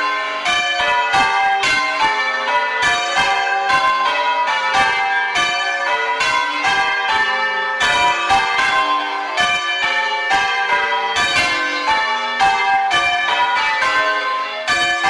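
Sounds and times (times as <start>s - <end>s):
church bells ringing changes: 0.0s - 15.0s.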